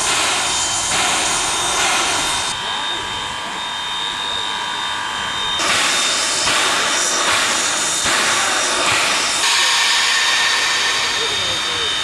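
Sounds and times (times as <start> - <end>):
locomotive steam hissing: 0.0 - 12.0.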